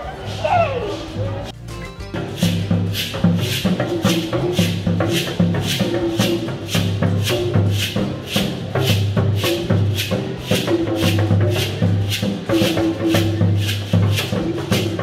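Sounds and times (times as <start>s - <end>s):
hand drums beating: 1.5s - 15.0s
gourd rattle shaken: 2.2s - 15.0s.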